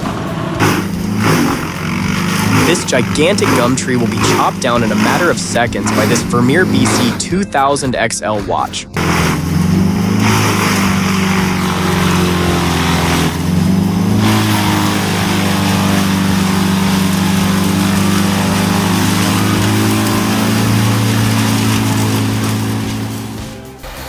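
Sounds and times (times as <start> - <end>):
brush chipper engine running: 0.0 - 24.0
dense grinding noise: 0.0 - 24.0.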